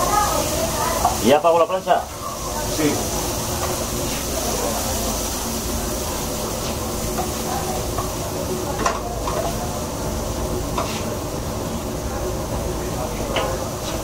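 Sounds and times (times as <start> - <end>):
mushrooms sizzling on a griddle: 0.0 - 14.0.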